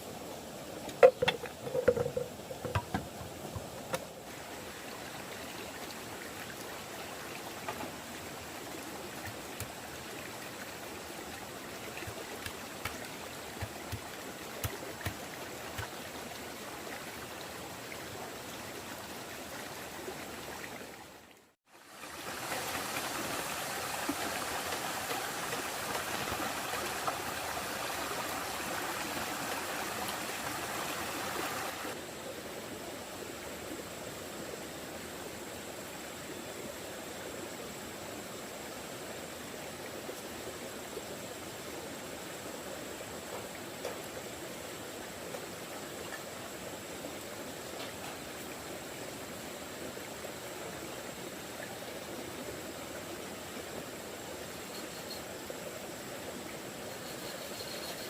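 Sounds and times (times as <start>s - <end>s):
running water rushing: 0.0s - 57.1s.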